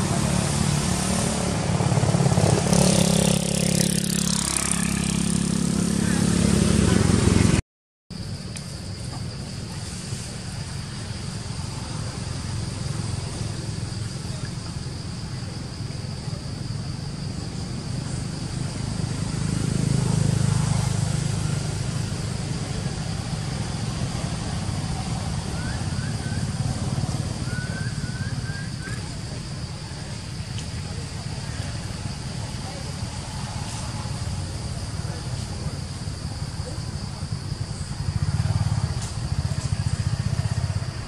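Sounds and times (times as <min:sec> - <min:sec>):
high insect drone: 0:00.0 - 0:07.5, 0:08.1 - 0:41.0.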